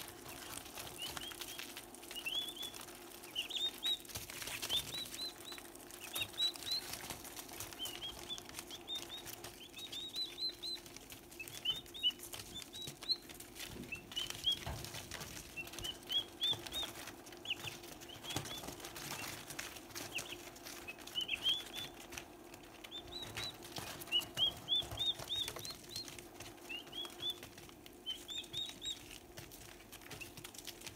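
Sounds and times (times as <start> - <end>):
pecking and scratching on paper: 0.0 - 30.9
turkey poults peeping: 0.0 - 30.9.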